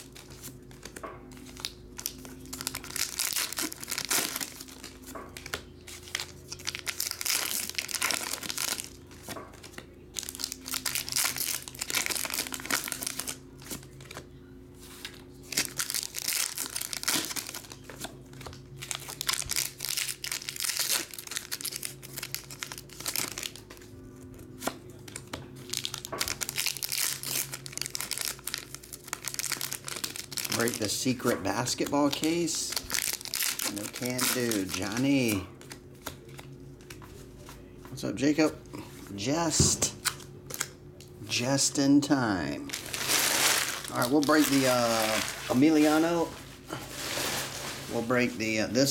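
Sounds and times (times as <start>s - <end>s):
plastic packaging crinkling and tearing: 0.0s - 14.3s, 14.9s - 23.9s, 24.6s - 37.0s, 42.6s - 48.9s.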